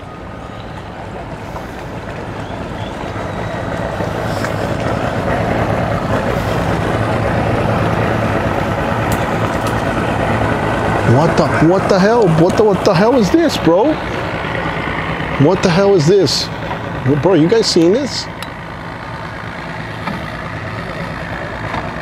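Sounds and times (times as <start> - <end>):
motorboat engine running: 0.0 - 22.0.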